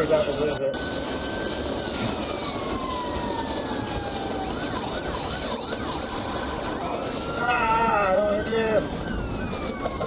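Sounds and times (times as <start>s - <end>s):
police siren wailing: 0.0s - 10.0s
road and engine noise: 0.0s - 10.0s.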